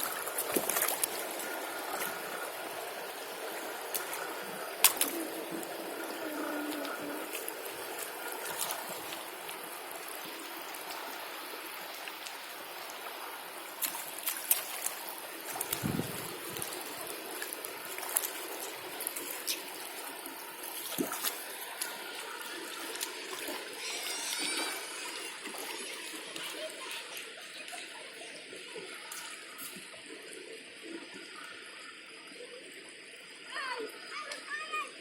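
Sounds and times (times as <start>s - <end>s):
stream trickling over stones: 0.0s - 35.0s.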